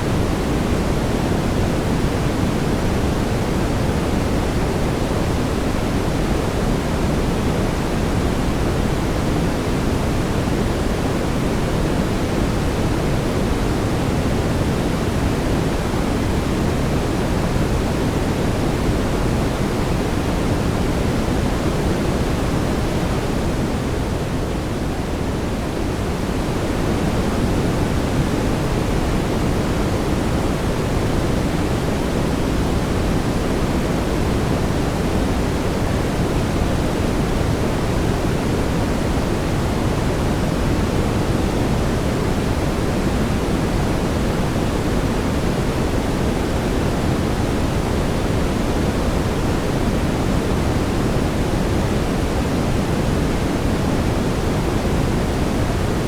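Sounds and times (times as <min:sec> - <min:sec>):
brown noise hiss: 0:00.0 - 0:56.0.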